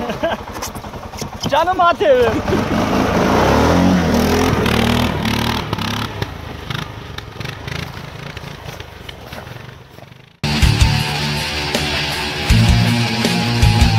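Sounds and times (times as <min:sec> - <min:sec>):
quad bike engine running: 0:00.0 - 0:13.9.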